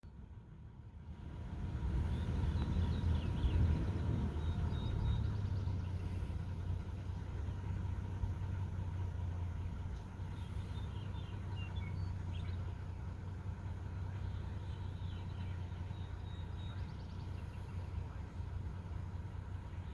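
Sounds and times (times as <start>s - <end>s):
low rumble: 1.2s - 19.9s
birds chirping: 1.9s - 9.0s, 9.6s - 19.9s.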